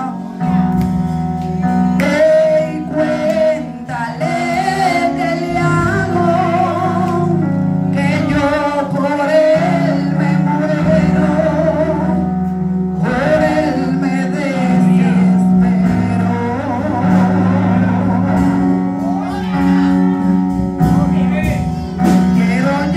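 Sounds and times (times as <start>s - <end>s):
keyboard chords: 0.0s - 22.9s
person singing into microphone: 1.7s - 20.5s, 21.5s - 22.9s.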